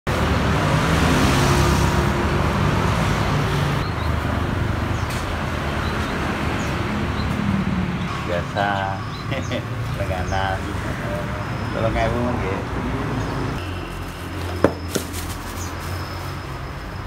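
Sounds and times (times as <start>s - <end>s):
scooters and cars passing: 0.1s - 17.0s.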